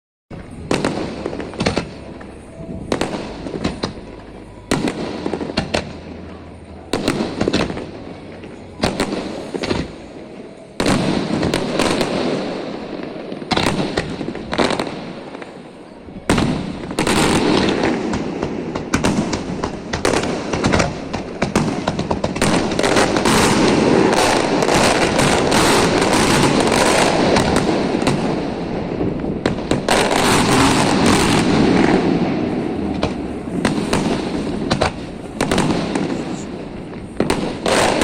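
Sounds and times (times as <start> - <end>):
fireworks bangs with crackle: 0.3 - 38.0.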